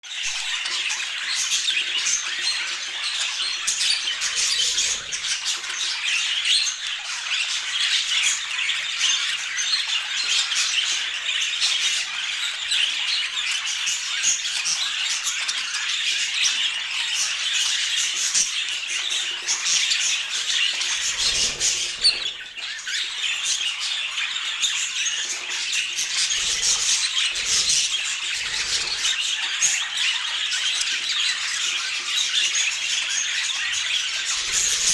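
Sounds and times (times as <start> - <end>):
budgerigars chattering: 0.2 - 34.9.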